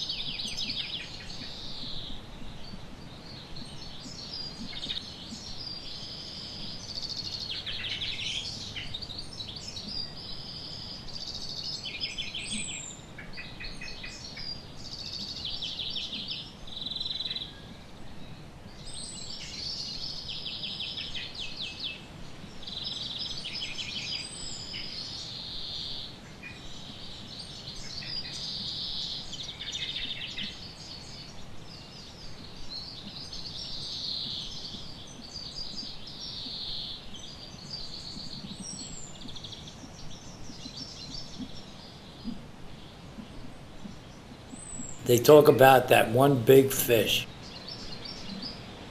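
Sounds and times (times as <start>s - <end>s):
small birds chirping and trilling: 0.0s - 45.0s
faint low background hiss: 0.0s - 48.9s.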